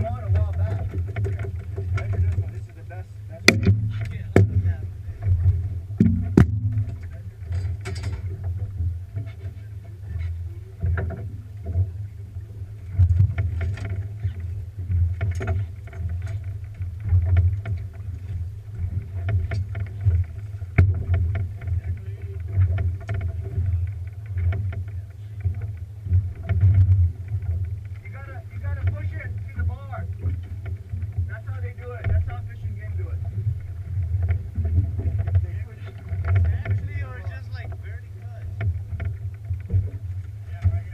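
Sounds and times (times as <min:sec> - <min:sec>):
boat low rumble: 0:00.0 - 0:40.9
faint steady hum: 0:00.0 - 0:40.9.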